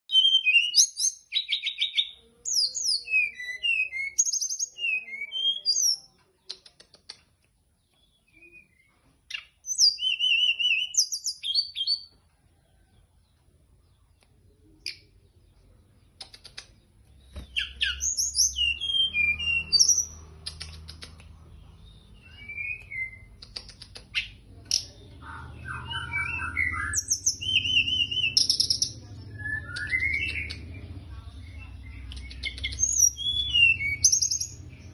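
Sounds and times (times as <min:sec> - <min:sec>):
songbird chirping and trilling: 0:00.1 - 0:34.9.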